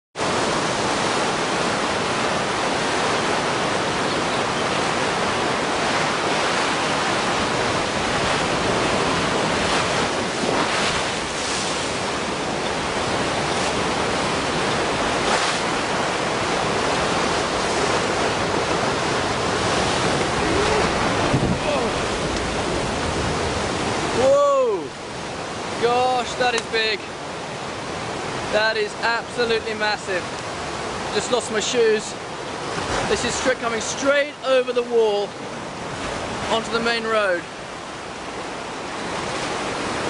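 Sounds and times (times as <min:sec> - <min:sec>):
churning water rushing: 0:00.2 - 0:40.0.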